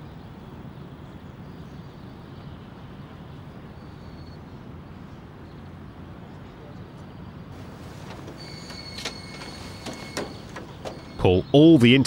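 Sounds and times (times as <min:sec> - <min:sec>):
outdoor ambience rumble and hiss: 0:00.0 - 0:12.0.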